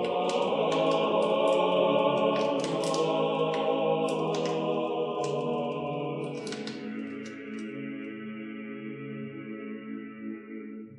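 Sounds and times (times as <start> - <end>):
choir singing held chords: 0.0 - 10.9.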